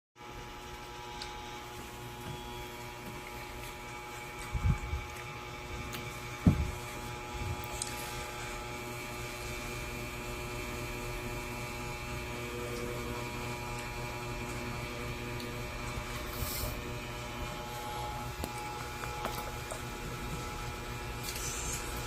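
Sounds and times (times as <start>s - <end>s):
electrical hum: 0.2s - 22.0s.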